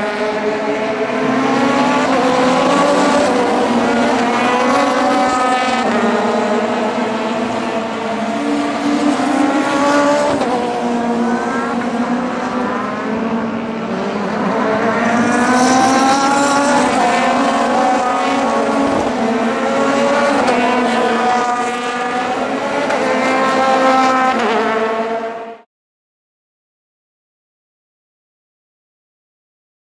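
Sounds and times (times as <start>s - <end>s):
race car engines revving past: 0.0s - 25.7s.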